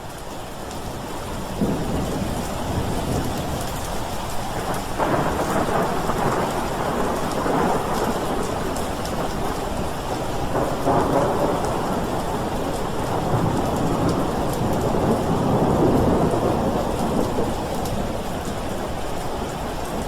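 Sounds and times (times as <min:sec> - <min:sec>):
steady rain: 0:00.0 - 0:20.0
rolling thunder: 0:01.5 - 0:18.9.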